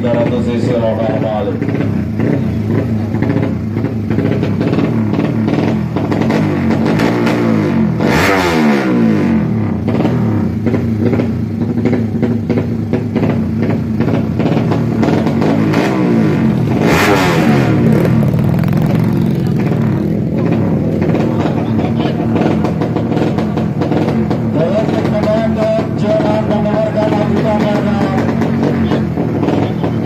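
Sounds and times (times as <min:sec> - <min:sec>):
loud engine blast: 0:00.0 - 0:30.0
motorcycle engines revving hard: 0:00.0 - 0:30.0.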